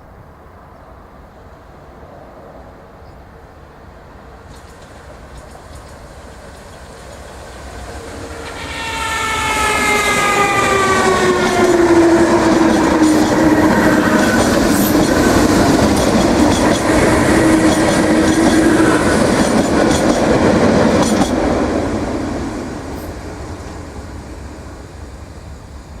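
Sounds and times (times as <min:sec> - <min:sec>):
electric train whine: 0:00.0 - 0:26.0.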